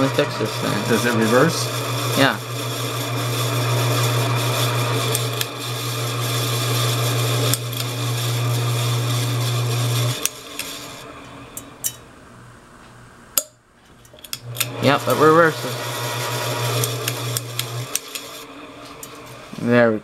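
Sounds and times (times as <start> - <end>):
ceiling fan motor humming: 0.0 - 20.0.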